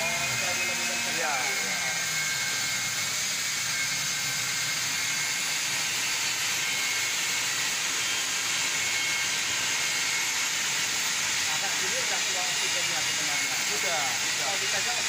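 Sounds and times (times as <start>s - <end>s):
cutting torch hissing: 0.0s - 15.0s.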